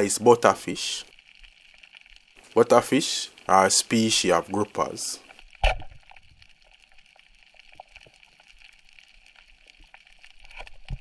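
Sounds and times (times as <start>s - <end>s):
steady underwater hiss: 0.0s - 11.0s
underwater clicks and crackle: 0.0s - 11.0s.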